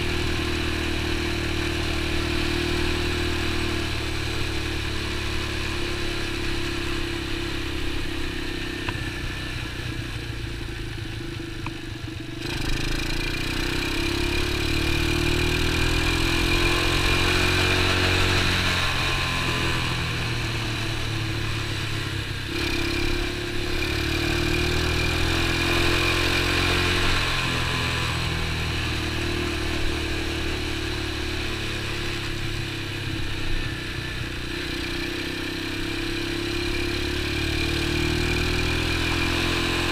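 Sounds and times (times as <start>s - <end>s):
small motorbike engine running: 0.0s - 39.9s.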